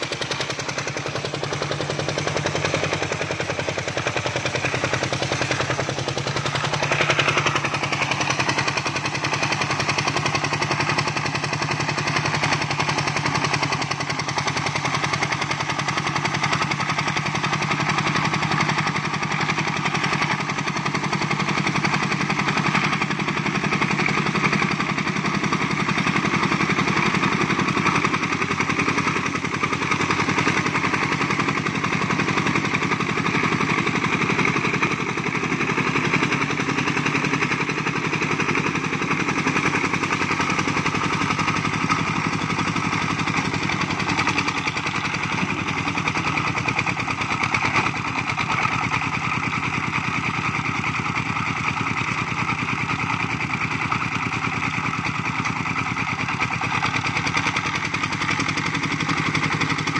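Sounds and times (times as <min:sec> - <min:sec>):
diesel tractor engine chugging: 0:00.0 - 0:59.9.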